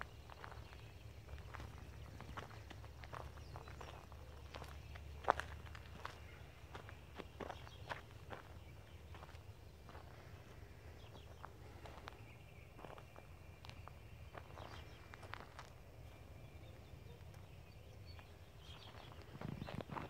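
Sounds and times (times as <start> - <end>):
footsteps on gravel: 0.0 - 20.0
low steady rumble: 0.0 - 20.0.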